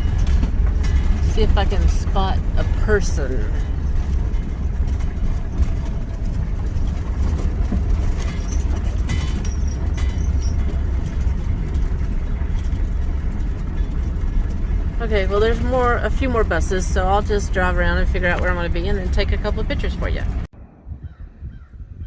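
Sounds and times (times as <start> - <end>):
light rattles: 0.0 - 20.5
bus engine and road rumble: 0.0 - 22.0.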